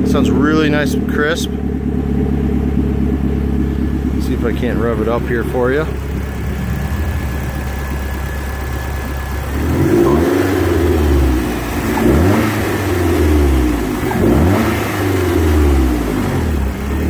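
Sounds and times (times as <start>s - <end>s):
turbocharged engine idling and revving: 0.0s - 17.0s.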